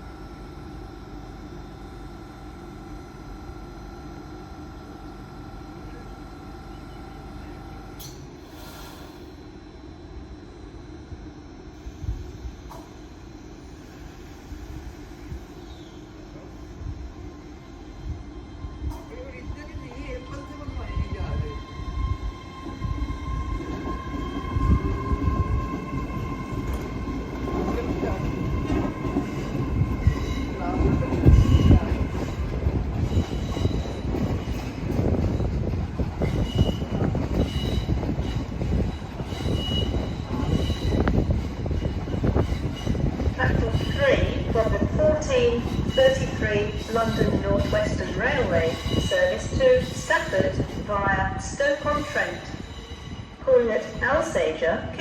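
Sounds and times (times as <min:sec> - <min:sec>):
train engine humming: 0:00.0 - 0:55.0.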